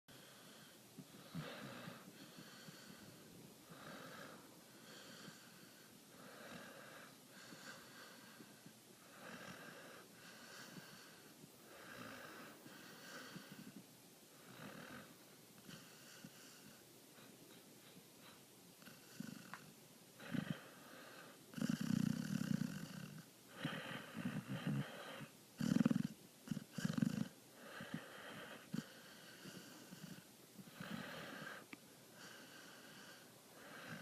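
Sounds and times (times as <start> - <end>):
dog snoring softly: 0.1 - 34.0.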